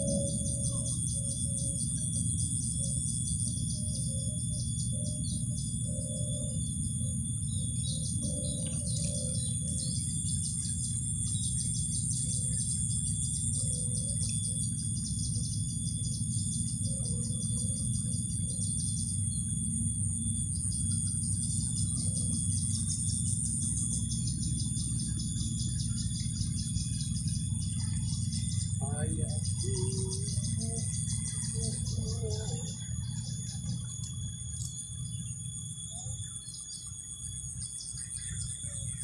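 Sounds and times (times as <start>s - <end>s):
low steady rumble: 0.0s - 37.1s
high steady whines: 0.0s - 39.0s
insects trilling: 0.0s - 39.0s.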